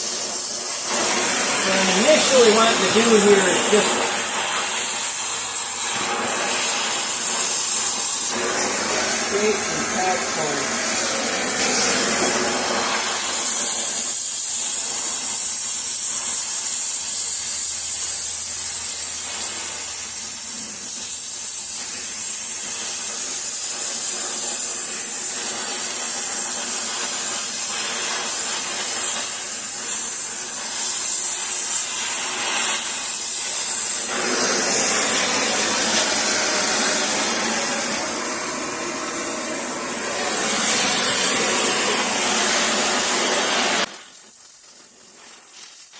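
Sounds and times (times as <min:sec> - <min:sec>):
welding torch flame hissing: 0:00.0 - 0:45.9.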